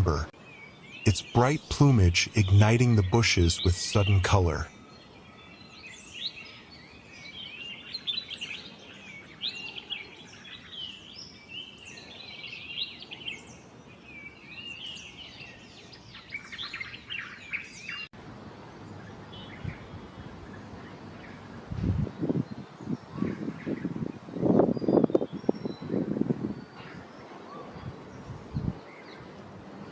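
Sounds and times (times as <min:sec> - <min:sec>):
songbirds chirping and singing: 0:00.0 - 0:18.1, 0:18.8 - 0:29.9
faint background noise: 0:00.0 - 0:29.9.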